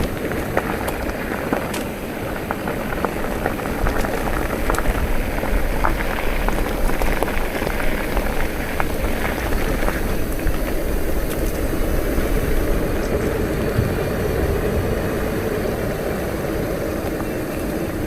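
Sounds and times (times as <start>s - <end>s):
clicks and crunches from tyres: 0.0s - 18.0s
mountain bike rolling on gravel: 0.0s - 18.0s
wind buffeting microphone: 0.0s - 18.0s.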